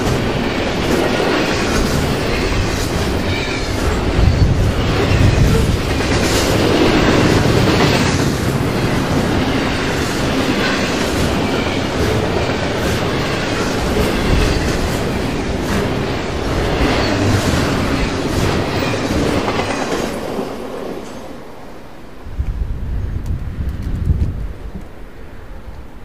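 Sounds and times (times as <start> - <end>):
clickety-clack over rail joints: 0.0 - 21.3
train wheels rumbling on rails: 0.0 - 26.0.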